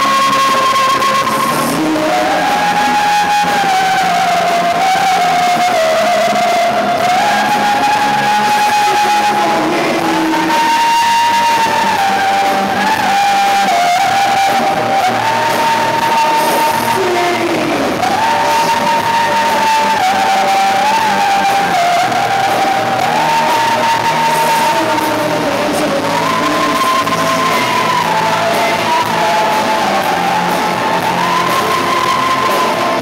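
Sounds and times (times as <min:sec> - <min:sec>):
live rock music: 0:00.0 - 0:33.0.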